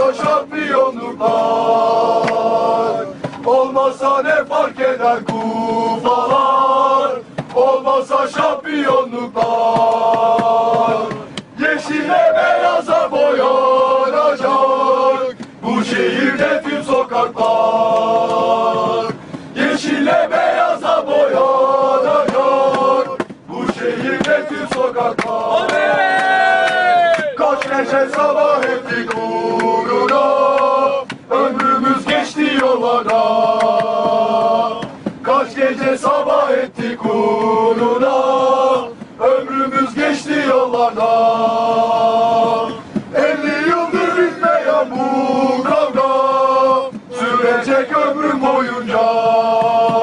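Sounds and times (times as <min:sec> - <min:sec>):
men chanting in unison: 0:00.0 - 0:50.0.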